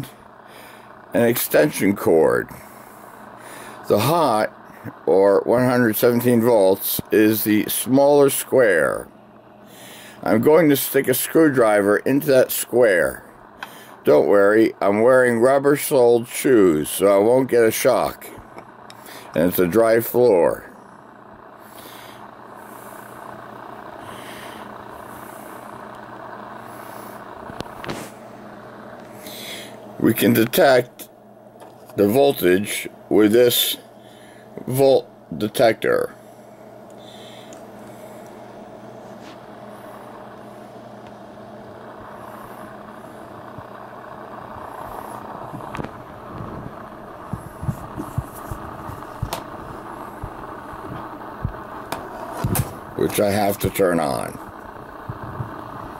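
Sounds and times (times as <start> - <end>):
steady background hum: 0.0 - 55.9.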